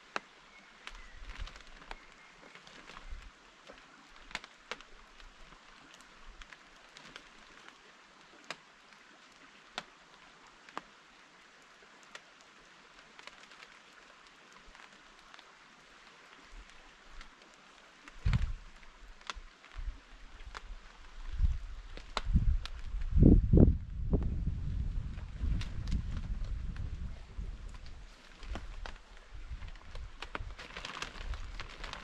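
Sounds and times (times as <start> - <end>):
light rain hiss: 0.0 - 32.0.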